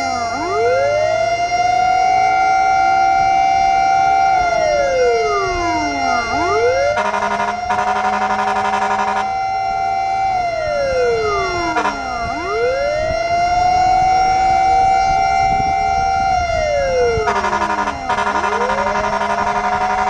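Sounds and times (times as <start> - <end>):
fire truck siren wailing: 0.0 - 20.0
rapidly pulsing siren: 0.0 - 20.0.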